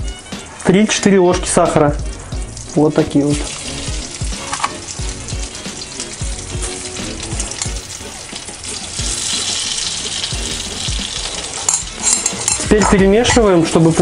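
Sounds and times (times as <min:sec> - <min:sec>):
background music with beat: 0:00.0 - 0:14.0
butter sizzling in frying pan: 0:00.0 - 0:14.0.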